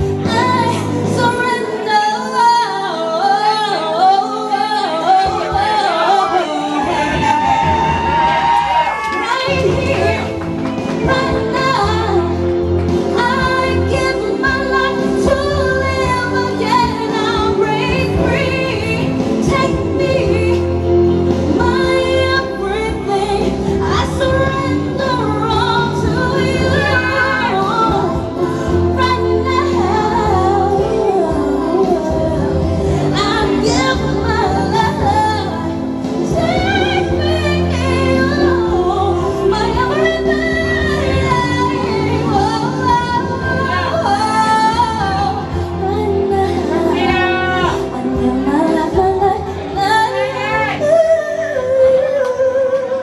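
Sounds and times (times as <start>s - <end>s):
woman singing into a microphone: 0.0s - 53.0s.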